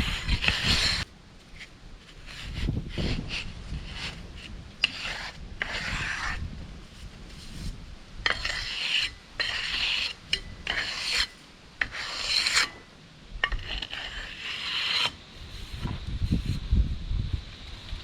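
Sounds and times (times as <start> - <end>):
tool scraping wet concrete: 0.0 - 16.6.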